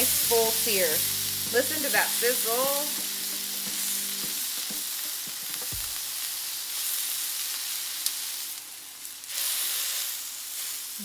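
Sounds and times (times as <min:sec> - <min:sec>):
steaks sizzling on griddle: 0:00.0 - 0:11.0.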